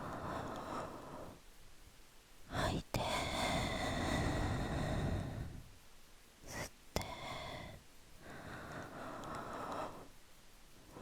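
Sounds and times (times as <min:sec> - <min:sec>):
close-miked human breathing: 0:00.0 - 0:01.6, 0:02.4 - 0:11.0.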